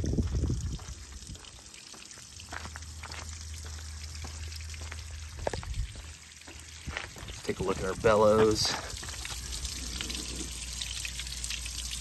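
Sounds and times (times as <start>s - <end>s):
water dripping onto wet pavement: 0.0s - 12.0s.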